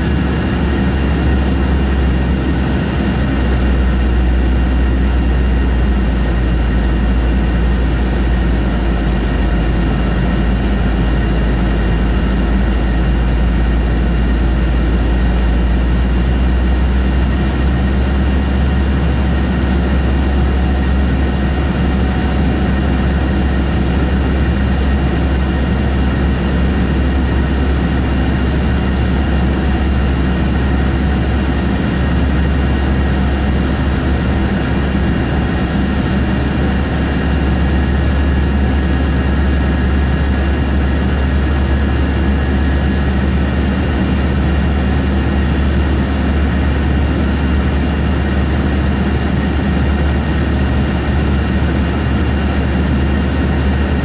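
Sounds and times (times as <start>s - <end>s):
jet engine deep rumble: 0.0s - 54.0s.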